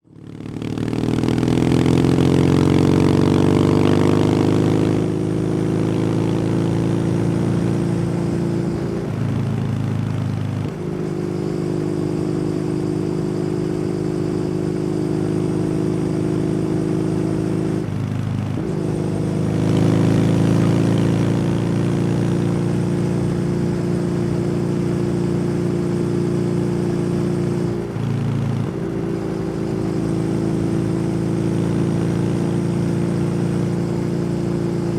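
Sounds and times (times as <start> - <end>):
motorcycle engine cruising: 0.0 - 34.9.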